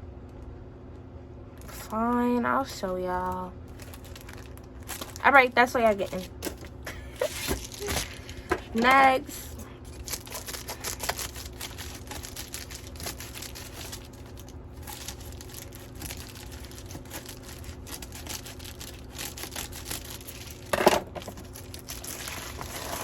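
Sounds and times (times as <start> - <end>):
plastic packaging crinkling and tearing: 3.2 - 23.0.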